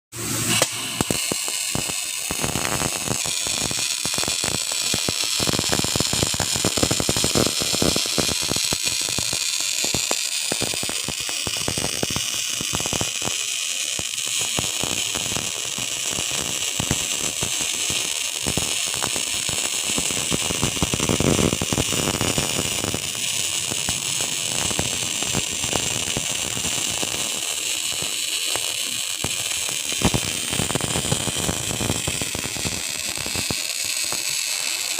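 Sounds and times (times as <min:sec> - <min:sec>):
welding arc crackling and hissing: 0:00.2 - 0:34.9.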